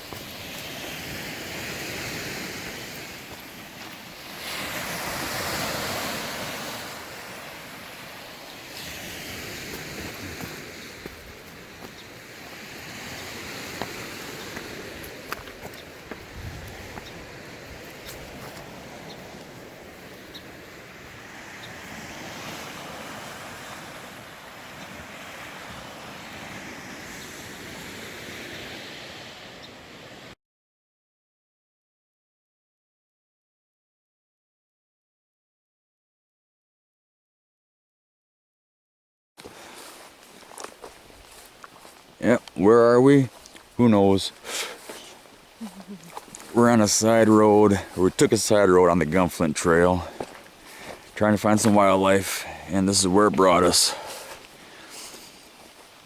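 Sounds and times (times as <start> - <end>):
waves washing against shore: 0.0 - 30.4, 39.4 - 56.0
wind: 0.0 - 30.4, 39.4 - 56.0.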